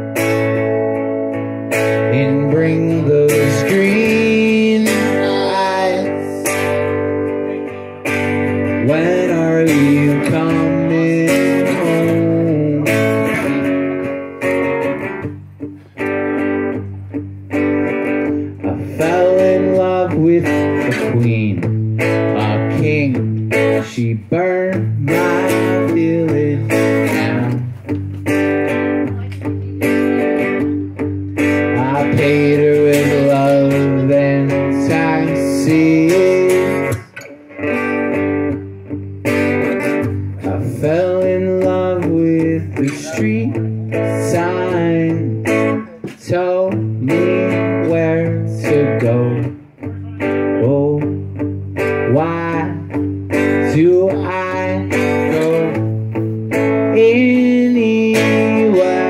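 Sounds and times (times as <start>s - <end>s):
acoustic guitar strumming: 0.0s - 59.0s
man singing: 1.9s - 14.2s, 18.5s - 27.8s, 29.8s - 37.2s, 40.3s - 59.0s.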